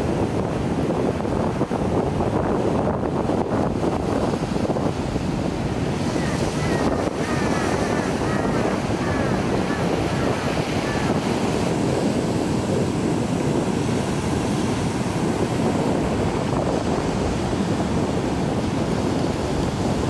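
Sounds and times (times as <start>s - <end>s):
small waves on a beach: 0.0s - 20.0s
wind rumbling on microphone: 0.0s - 20.0s.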